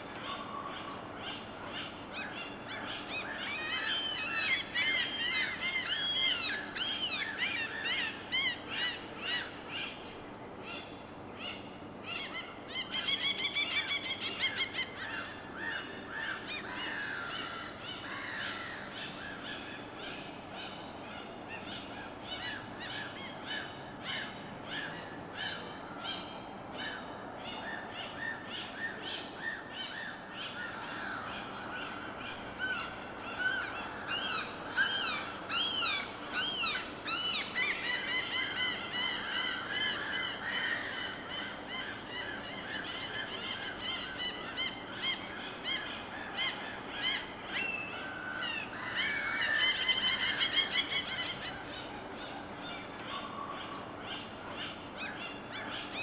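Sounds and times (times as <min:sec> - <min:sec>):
many birds calling: 0:00.0 - 0:10.0, 0:10.7 - 0:56.0.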